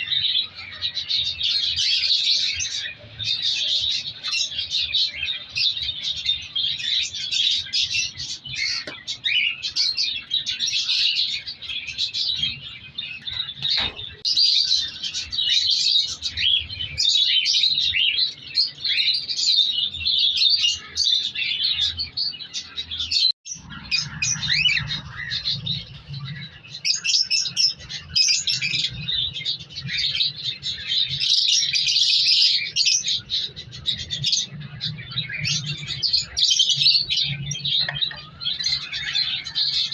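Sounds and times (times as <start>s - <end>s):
caged birds chirping: 0.0s - 39.9s.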